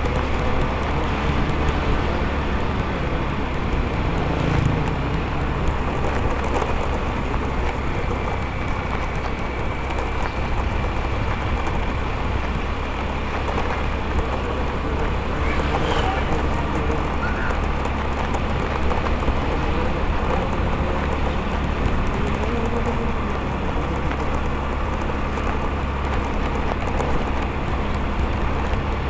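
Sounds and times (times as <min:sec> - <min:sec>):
motorcycle engine: 0:00.0 - 0:29.0
road noise: 0:00.0 - 0:29.0.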